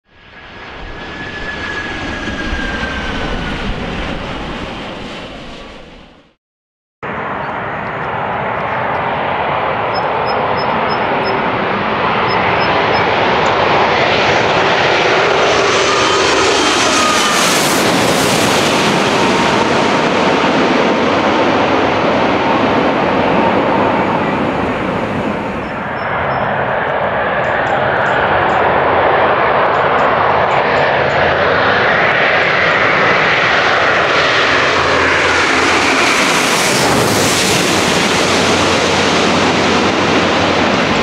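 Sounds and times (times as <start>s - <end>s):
jet airliner passing close: 0.1s - 6.4s, 7.0s - 41.0s
jet engines whining: 0.2s - 6.4s, 7.0s - 41.0s.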